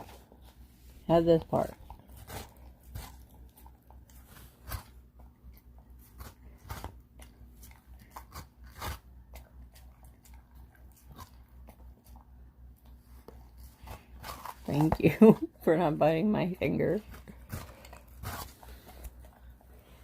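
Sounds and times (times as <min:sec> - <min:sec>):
dog chewing and crunching: 0:00.0 - 0:20.0.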